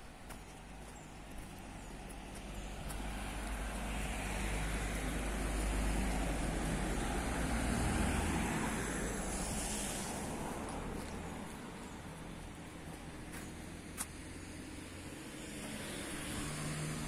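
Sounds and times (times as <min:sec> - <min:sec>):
car passing by: 0:02.5 - 0:17.0.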